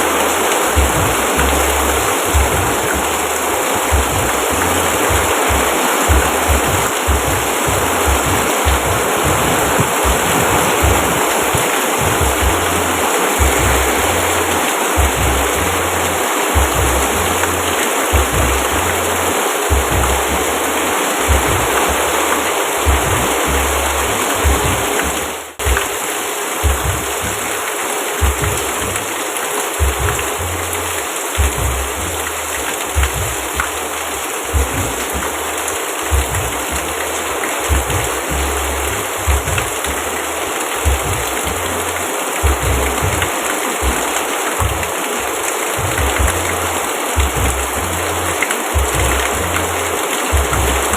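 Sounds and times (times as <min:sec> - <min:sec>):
deep low pulse: 0:00.0 - 0:25.9, 0:29.8 - 0:44.9, 0:45.8 - 0:50.9
dense rainfall hiss: 0:00.0 - 0:50.9.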